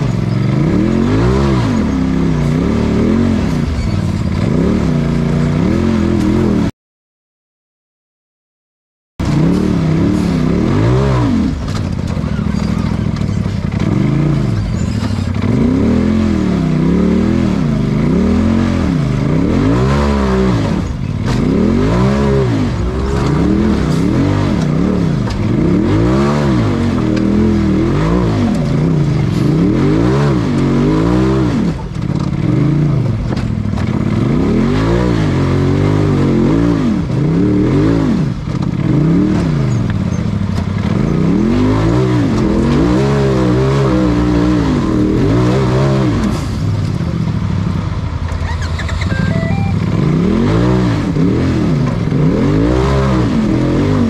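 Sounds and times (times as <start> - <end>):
race car engine revving: 0.0 - 6.7, 9.2 - 54.0.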